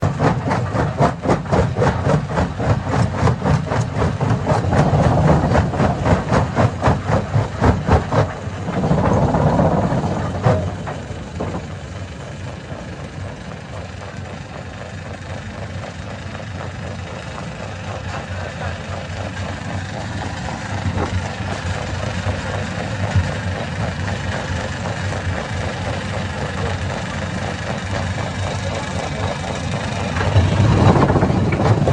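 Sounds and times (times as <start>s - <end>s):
stone crusher machinery: 0.0s - 31.9s.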